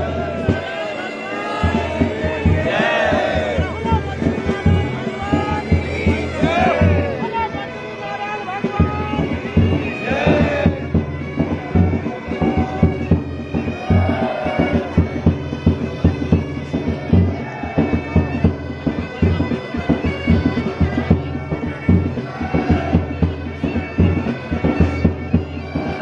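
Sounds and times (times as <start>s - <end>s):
bagpipes playing melody with drone: 0.0s - 26.0s
drumbeats: 0.0s - 26.0s.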